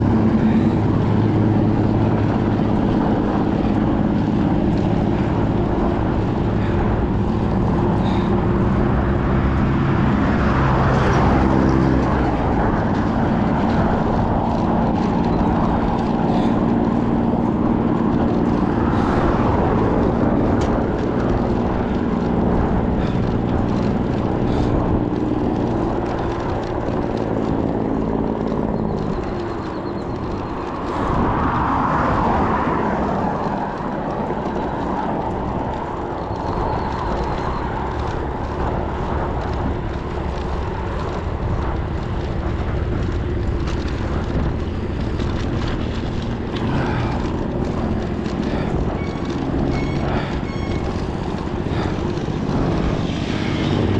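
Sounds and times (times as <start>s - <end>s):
road and wind noise: 0.0s - 53.9s
vehicle engine running: 0.0s - 53.9s.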